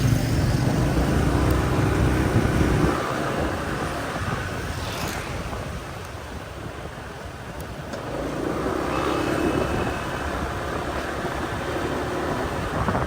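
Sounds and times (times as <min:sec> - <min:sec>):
motorbike engine rumble: 0:00.0 - 0:13.0
traffic hum: 0:00.0 - 0:13.0.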